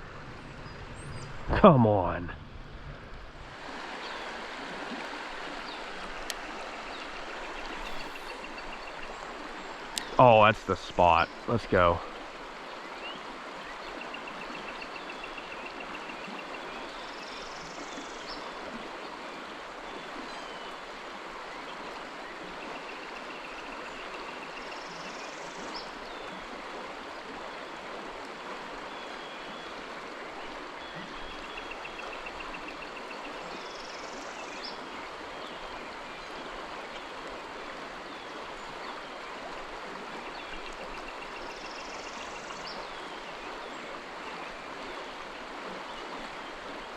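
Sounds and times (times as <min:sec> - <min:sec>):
creek water running: 0:00.0 - 0:46.9.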